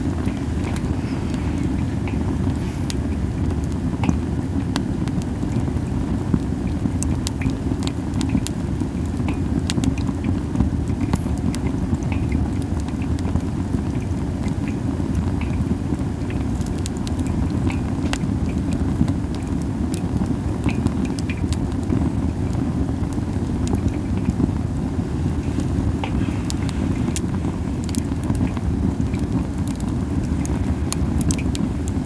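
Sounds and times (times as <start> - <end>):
campfire crackling and popping: 0.0 - 32.0
low fire rumble: 0.0 - 32.0.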